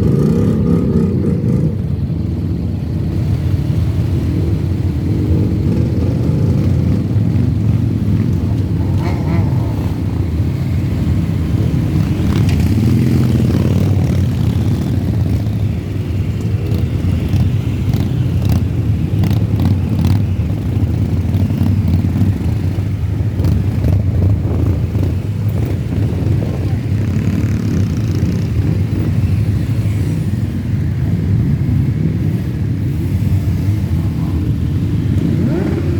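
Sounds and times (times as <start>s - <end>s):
motorcycle engine revving: 0.0s - 30.6s, 33.4s - 35.9s
motorcycle engines rumbling: 0.0s - 35.9s.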